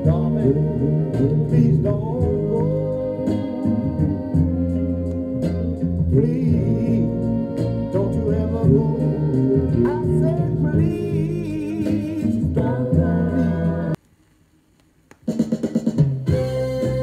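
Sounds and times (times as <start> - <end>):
person singing over bass and drums: 0.0 - 14.0.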